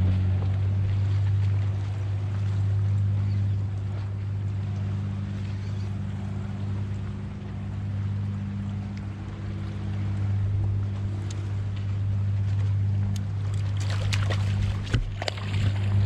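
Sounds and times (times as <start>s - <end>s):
boat motor droning: 0.0s - 16.0s
wind: 0.0s - 16.0s.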